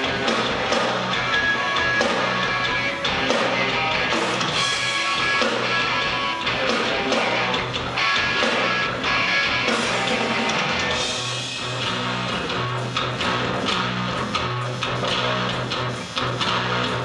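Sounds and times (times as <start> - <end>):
bass guitar low notes: 0.0 - 17.0
drum kit: 0.0 - 17.0.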